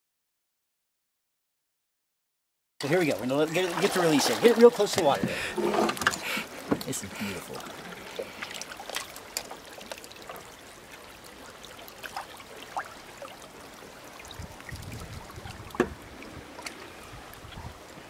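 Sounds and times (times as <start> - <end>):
river water trickling and lapping: 2.8 - 18.0
small water splashes: 2.8 - 18.0.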